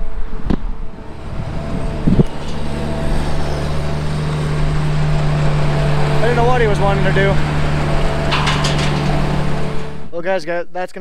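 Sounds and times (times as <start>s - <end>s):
farm machinery engine humming: 0.2s - 10.2s.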